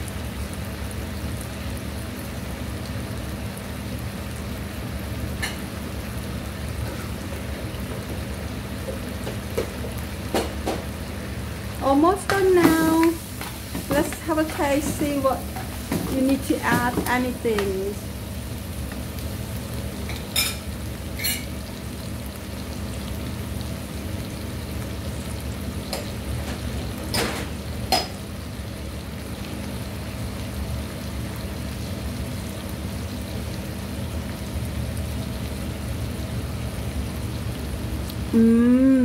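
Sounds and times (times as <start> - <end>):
stir fry sizzling in a wok: 0.0 - 38.4.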